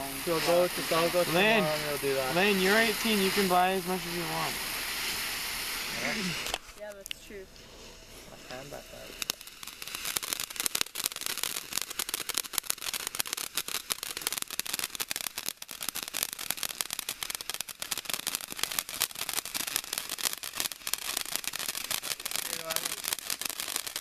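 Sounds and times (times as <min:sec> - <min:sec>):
firework fountain hissing and crackling: 0:00.0 - 0:24.0.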